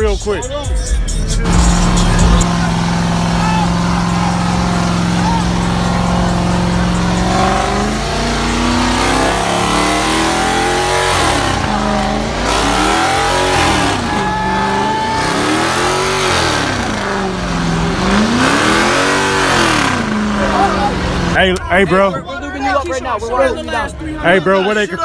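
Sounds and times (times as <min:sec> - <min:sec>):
car engine revving hard: 0:01.2 - 0:21.6.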